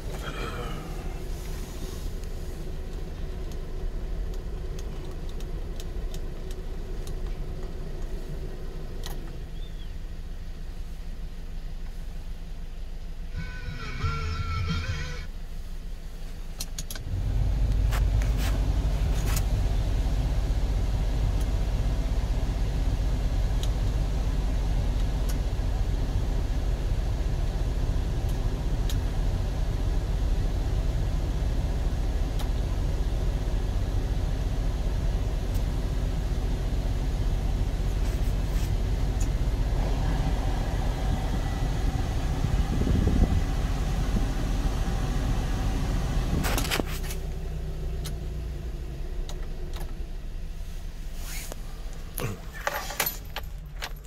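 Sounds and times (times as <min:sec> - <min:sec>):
truck idling with refrigeration unit: 0:00.0 - 0:54.0.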